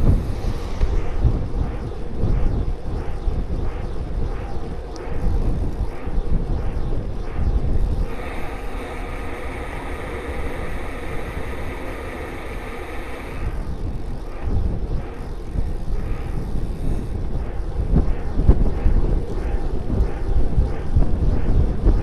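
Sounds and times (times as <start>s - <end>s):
bicycle tyre road noise: 0.0s - 22.0s
wind rushing over microphone: 0.0s - 22.0s.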